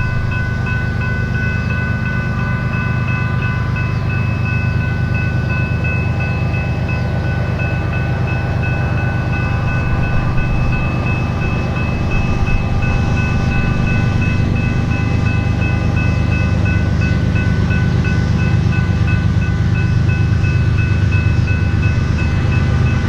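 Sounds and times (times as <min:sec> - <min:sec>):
pulsing high ringing tones: 0:00.0 - 0:23.0
train rumbling past: 0:00.0 - 0:23.0.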